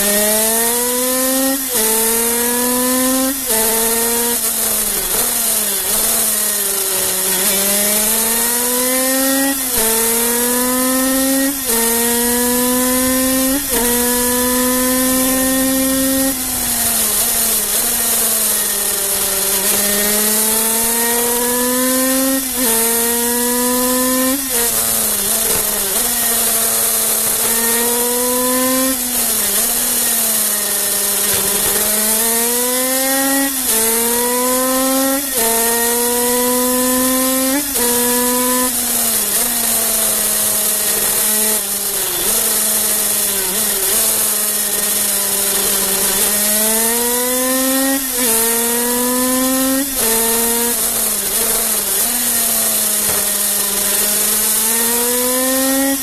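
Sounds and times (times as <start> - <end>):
racing engine revving: 0.0 - 56.0.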